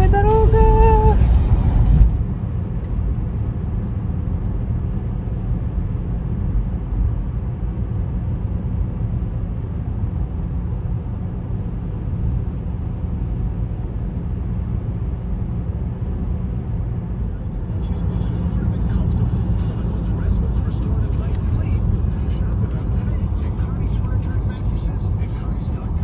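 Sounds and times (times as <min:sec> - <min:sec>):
car driving on road interior: 0:00.0 - 0:26.0.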